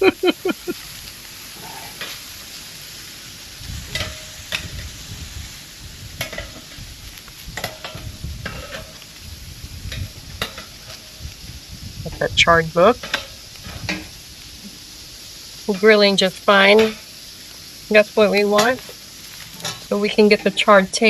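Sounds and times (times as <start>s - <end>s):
food sizzling on a grill: 0.0s - 21.0s.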